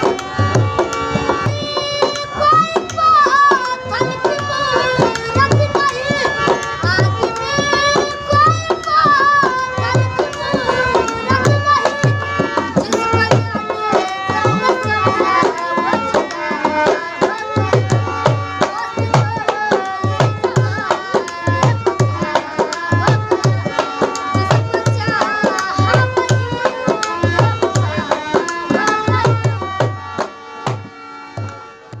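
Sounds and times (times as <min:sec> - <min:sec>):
harmonium held notes: 0:00.0 - 0:32.0.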